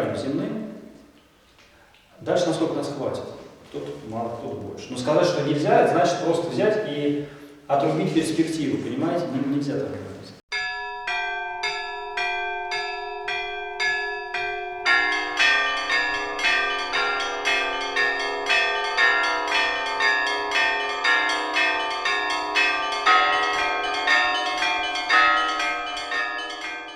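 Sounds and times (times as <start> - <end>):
church bells ringing: 4.8 - 26.9.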